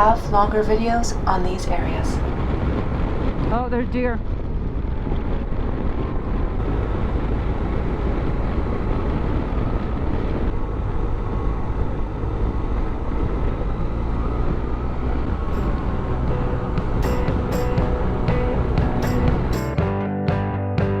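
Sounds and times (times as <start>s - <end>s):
wind rush on microphone: 0.0s - 19.6s
motorcycle engine and road noise: 0.0s - 19.8s.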